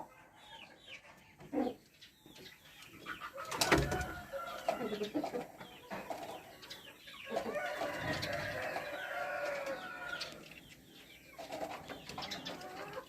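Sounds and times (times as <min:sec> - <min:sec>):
chickens calling: 0:00.0 - 0:13.0.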